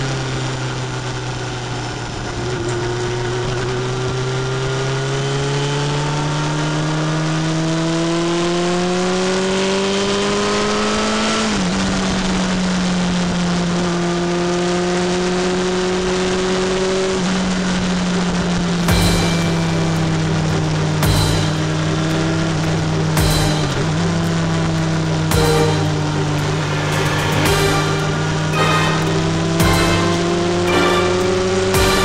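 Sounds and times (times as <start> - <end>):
wind and road rush: 0.0 - 32.0.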